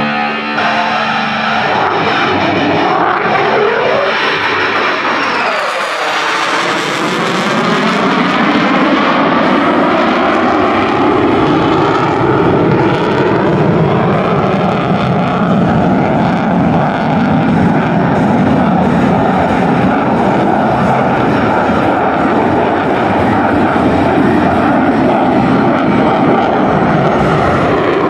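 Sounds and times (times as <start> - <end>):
jet engine afterburner rumble: 0.0 - 28.0
jet passing swish: 0.0 - 28.0.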